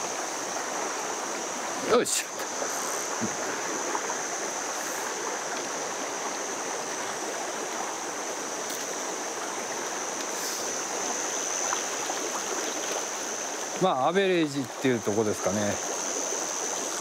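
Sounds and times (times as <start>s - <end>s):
stream water running: 0.0s - 17.0s.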